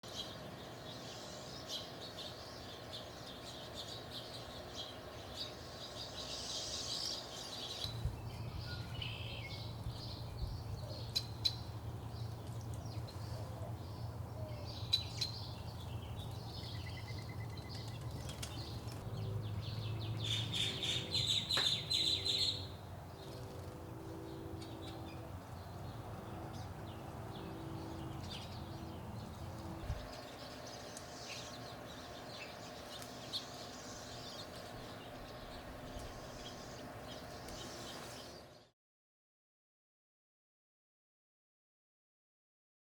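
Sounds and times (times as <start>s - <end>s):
low steady hum: 0.0s - 38.7s
songbirds chirping and trilling: 0.0s - 38.7s.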